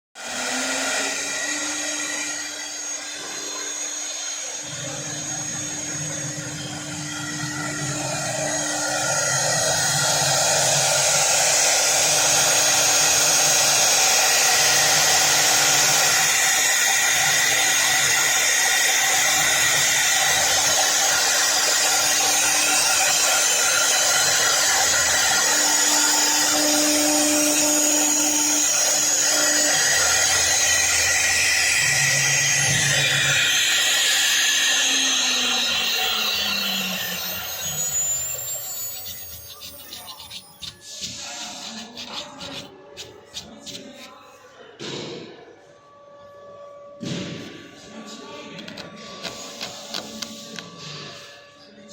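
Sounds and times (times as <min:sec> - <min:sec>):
router machine whine and hiss: 0:00.2 - 0:44.2, 0:47.9 - 0:51.8.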